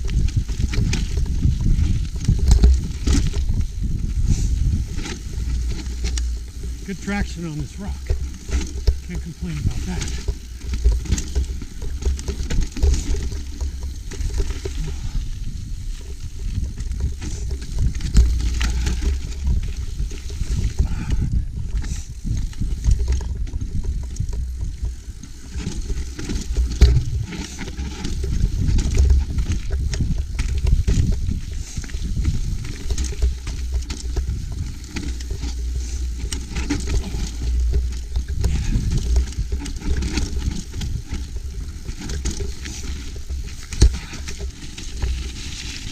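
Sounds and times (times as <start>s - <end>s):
mountain bike rolling on rocks: 0.0s - 45.9s
wind buffeting microphone: 0.0s - 45.9s.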